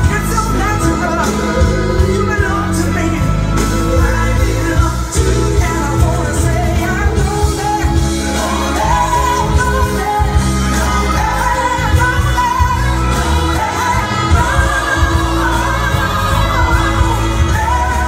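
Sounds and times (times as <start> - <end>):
pop music with singer: 0.0 - 18.0.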